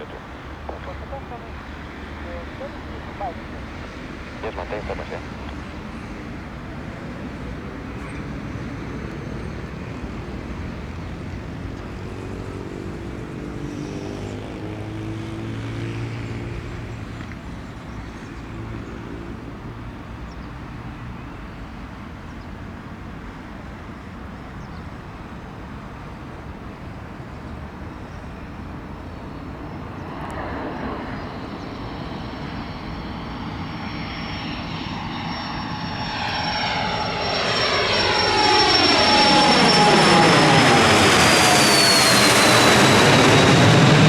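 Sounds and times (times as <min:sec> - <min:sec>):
distant jet engines rumbling: 0:00.0 - 0:44.0.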